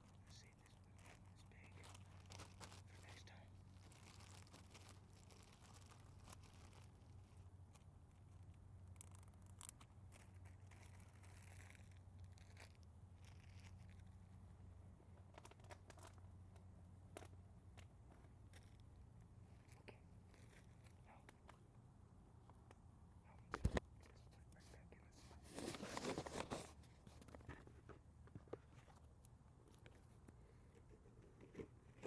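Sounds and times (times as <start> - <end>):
faint clicks and crackles: 0.0 - 32.0.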